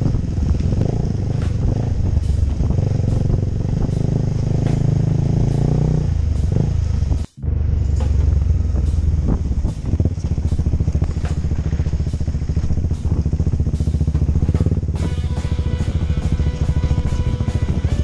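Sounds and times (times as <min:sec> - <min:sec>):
motorcycle engine running: 0:00.0 - 0:18.0
sharp ticks: 0:00.0 - 0:18.0.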